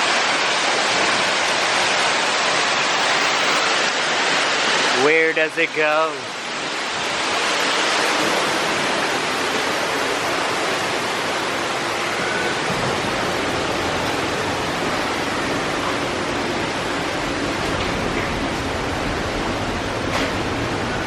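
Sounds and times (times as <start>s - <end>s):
falling water roaring: 0.0s - 21.0s.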